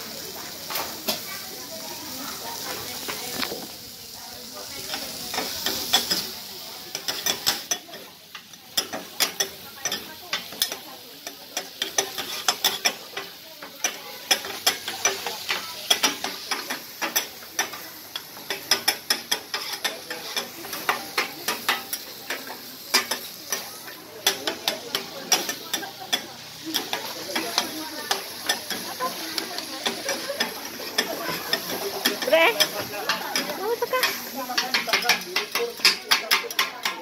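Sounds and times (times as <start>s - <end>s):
meat sizzling: 0.0s - 37.0s
spatulas clacking on griddle: 0.3s - 37.0s.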